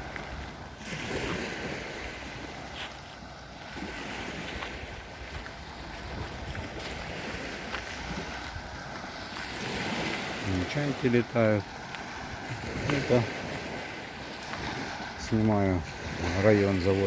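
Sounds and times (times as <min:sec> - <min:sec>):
small waves washing on shore: 0:00.0 - 0:17.0
wind rumbling on microphone: 0:00.0 - 0:17.0.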